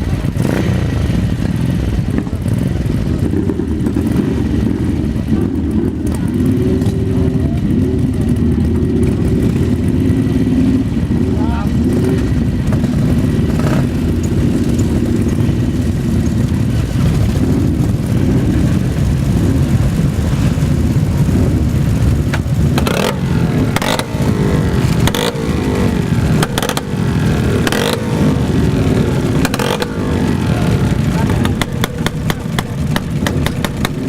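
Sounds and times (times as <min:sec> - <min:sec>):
motorcycle engines revving: 0:00.0 - 0:34.0
sharp engine crackles: 0:00.0 - 0:34.0.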